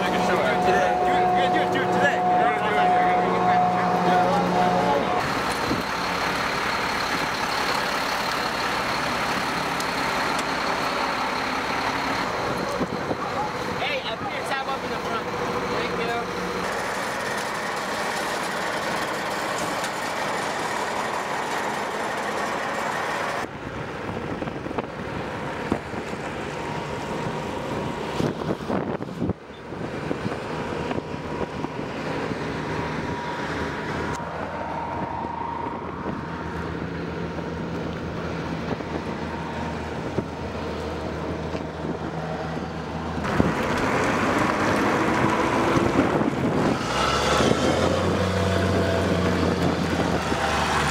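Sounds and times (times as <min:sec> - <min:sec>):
armoured vehicles driving on concrete: 0:00.0 - 0:50.9
diesel truck engine running: 0:00.0 - 0:50.9
tyre and road noise: 0:00.0 - 0:50.9.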